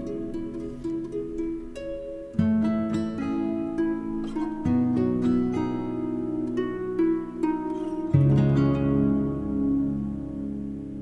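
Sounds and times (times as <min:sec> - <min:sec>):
plucked string music: 0:00.0 - 0:11.0.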